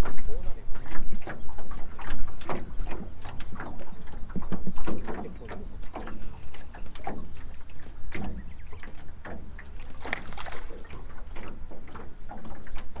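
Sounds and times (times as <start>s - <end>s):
water splash: 0.0s - 12.8s
low rumble of wind: 0.0s - 13.0s
waves slapping against boat hull: 0.0s - 13.0s.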